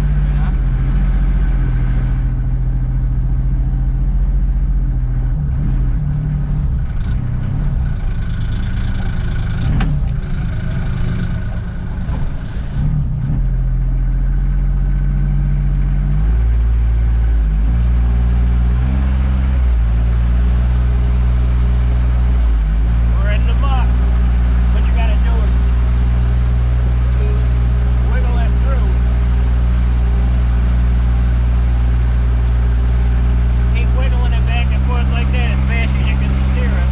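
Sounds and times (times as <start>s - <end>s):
off-road vehicle engine running: 0.0s - 36.9s.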